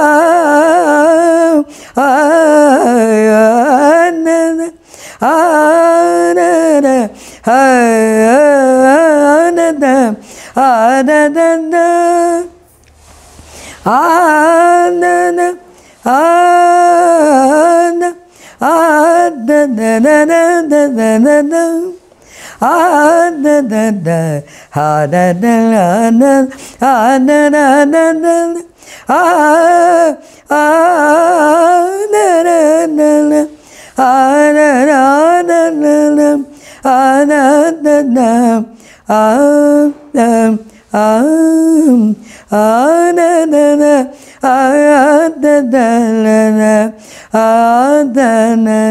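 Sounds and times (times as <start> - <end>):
elderly woman singing unaccompanied: 0.0 - 12.7, 13.8 - 48.9.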